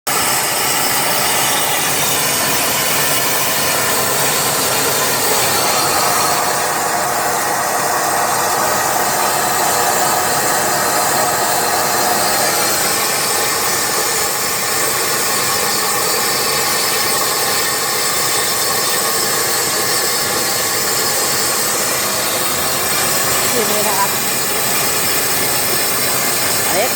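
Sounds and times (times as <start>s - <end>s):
plasma torch cutting steel: 0.1s - 26.9s.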